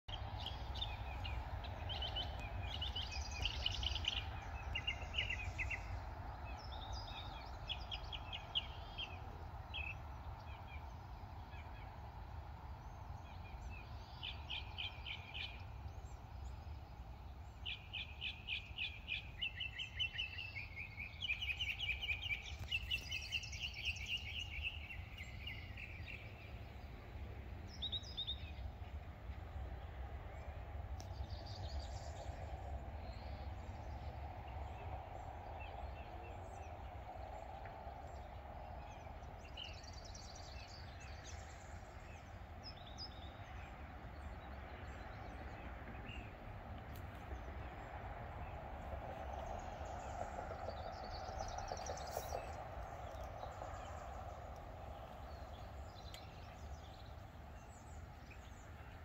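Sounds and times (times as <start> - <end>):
distant road traffic rumble: 0.1 - 59.0
songbirds singing trills: 0.1 - 59.0.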